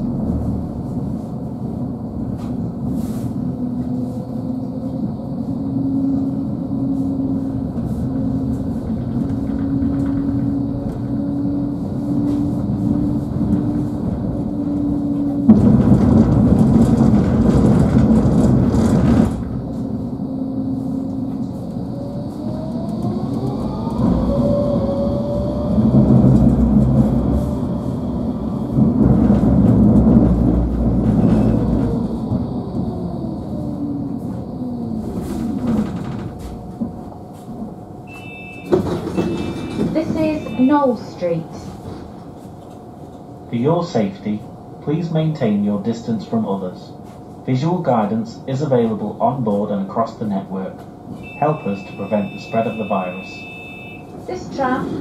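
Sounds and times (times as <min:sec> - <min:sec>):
tram motor hum: 0:00.0 - 0:55.0
tram rumbling: 0:00.0 - 0:55.0.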